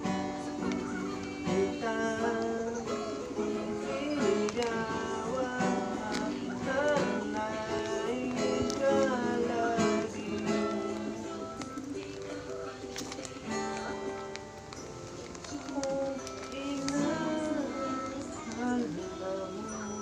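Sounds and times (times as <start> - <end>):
plucked acoustic guitar music: 0.0 - 20.0.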